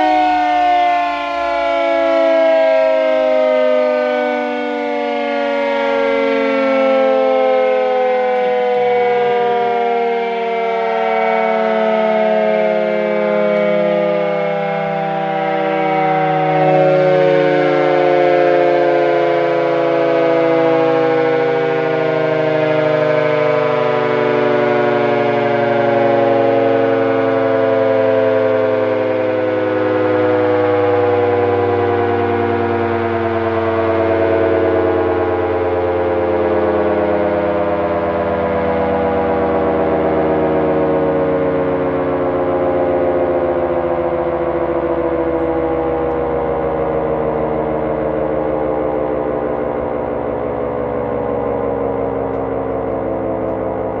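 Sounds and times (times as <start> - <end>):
air-raid siren wailing: 0.0 - 54.0.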